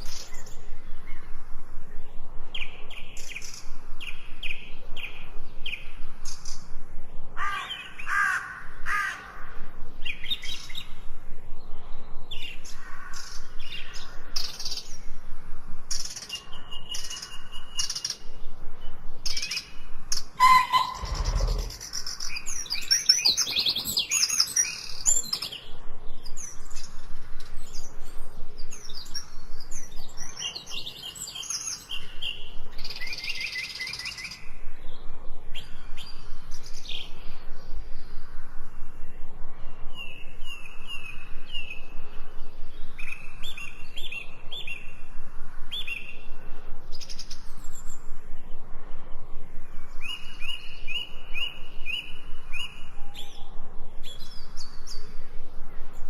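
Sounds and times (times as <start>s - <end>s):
birds chirping and singing: 0.0s - 46.3s, 49.8s - 56.0s.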